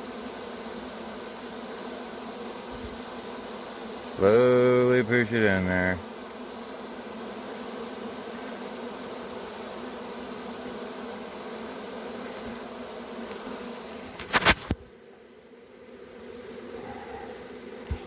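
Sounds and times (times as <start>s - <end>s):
bee swarm buzzing: 0.0s - 18.0s.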